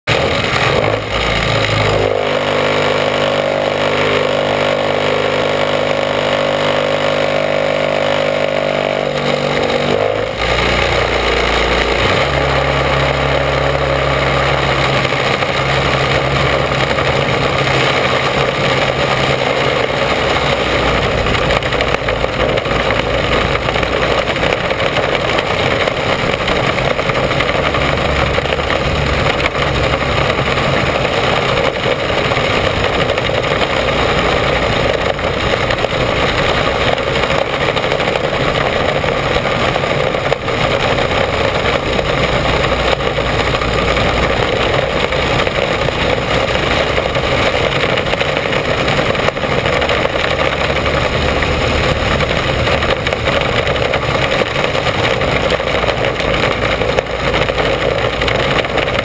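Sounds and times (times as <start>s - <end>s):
heavy rushing noise: 0.0s - 59.0s
racing car engine: 0.0s - 59.0s.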